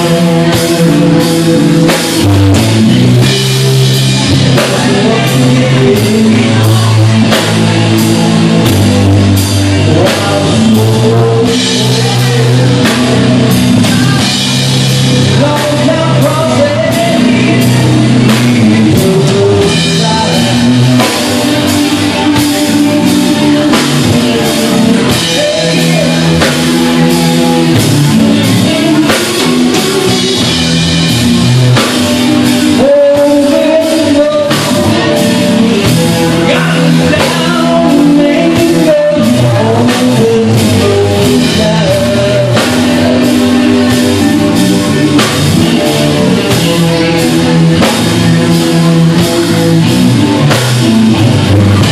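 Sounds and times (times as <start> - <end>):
drum kit: 0.0 - 51.9
electric bass: 0.0 - 51.9
electric guitar: 0.0 - 51.9.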